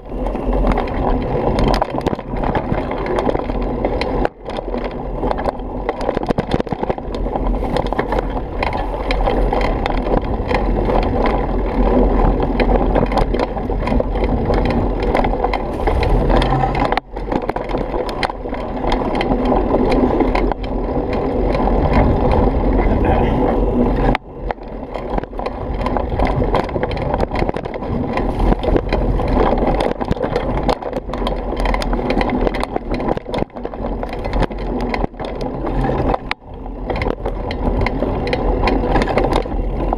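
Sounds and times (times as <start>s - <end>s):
bike rattling: 0.0s - 39.9s
tyres crunching on dirt: 0.1s - 39.9s.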